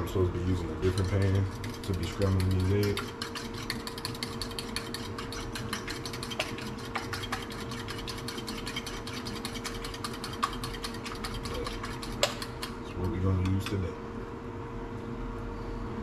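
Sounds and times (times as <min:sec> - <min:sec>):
eggs beaten in a bowl: 0:00.0 - 0:13.9
utensil clicking against bowl: 0:00.9 - 0:13.8.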